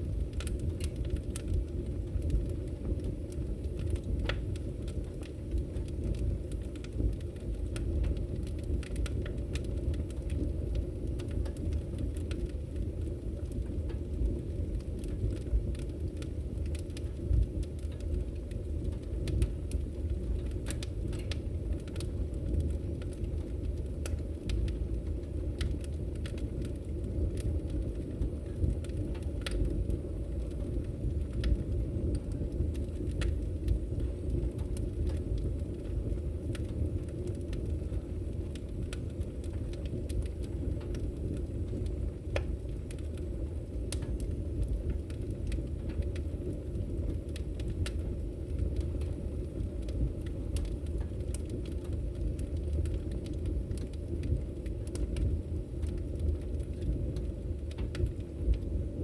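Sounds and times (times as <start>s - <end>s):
rumble of flames: 0.0s - 59.0s
wood crackling and popping: 0.0s - 59.0s.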